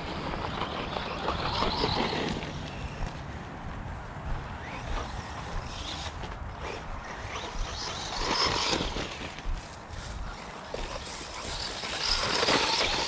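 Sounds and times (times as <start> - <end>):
electric rc car motor whining: 0.0 - 3.2, 4.6 - 13.0
wheels over gravel and dry leaves: 0.0 - 13.0.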